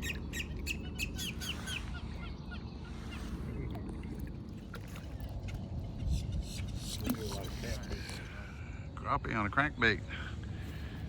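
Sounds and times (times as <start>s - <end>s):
low steady background hum: 0.0s - 11.0s.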